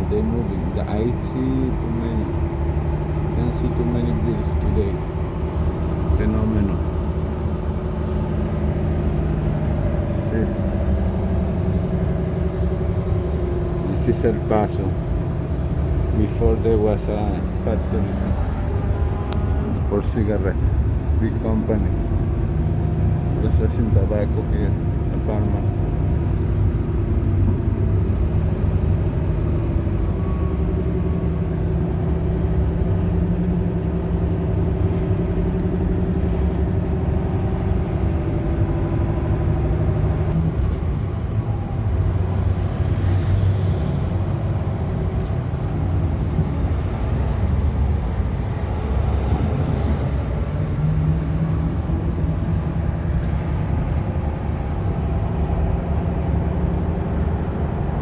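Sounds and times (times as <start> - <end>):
bus engine droning: 0.0 - 58.0
road noise rumble: 0.0 - 58.0.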